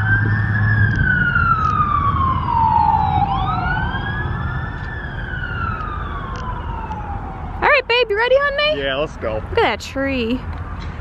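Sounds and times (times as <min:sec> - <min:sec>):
emergency siren wailing: 0:00.0 - 0:09.0.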